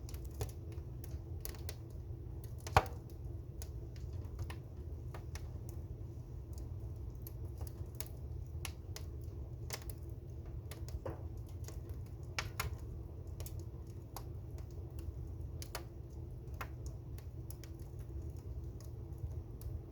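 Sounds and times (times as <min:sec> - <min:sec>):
fire crackling and popping: 0:00.0 - 0:19.9.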